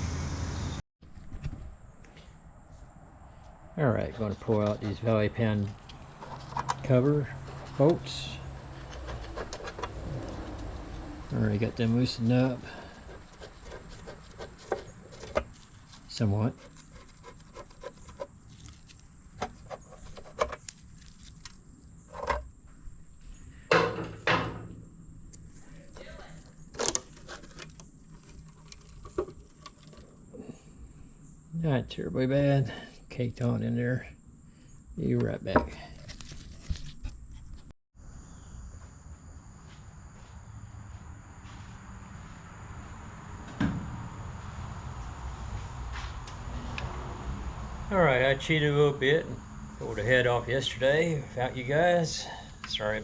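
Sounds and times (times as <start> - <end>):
insects chirring: 1.4 - 53.0.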